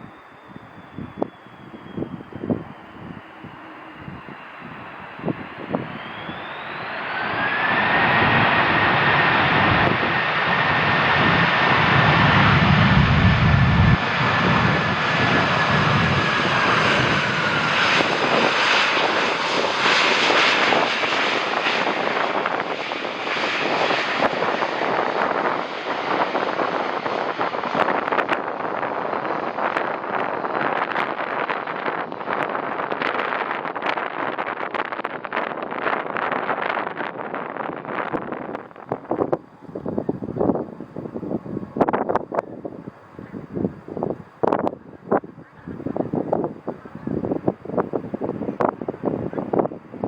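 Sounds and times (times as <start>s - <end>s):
jet airliner passing close: 0.0s - 50.0s.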